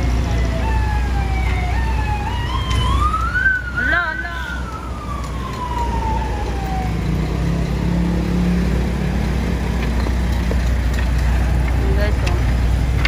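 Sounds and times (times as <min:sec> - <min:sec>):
passing vehicles engine rumble: 0:00.0 - 0:13.0.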